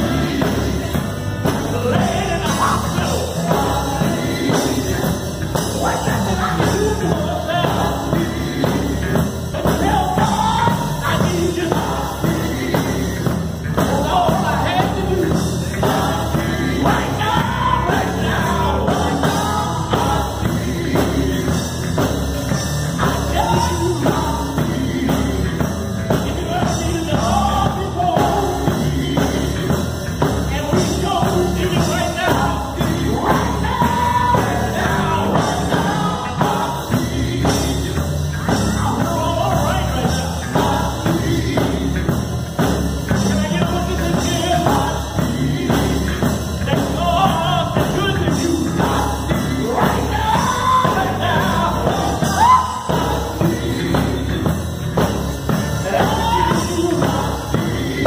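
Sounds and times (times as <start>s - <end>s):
live band with guitar and drums: 0.0s - 58.0s
male vocal group singing gospel: 0.0s - 58.0s.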